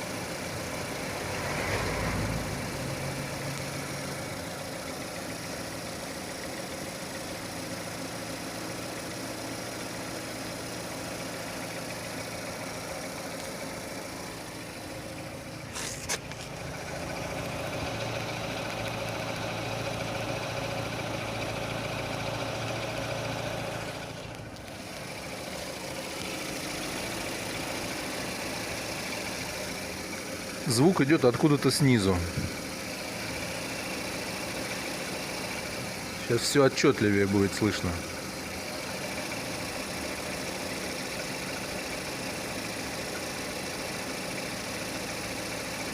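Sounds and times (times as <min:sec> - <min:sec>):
car engine idling: 0:00.0 - 0:45.9
engine knocking: 0:00.0 - 0:45.9.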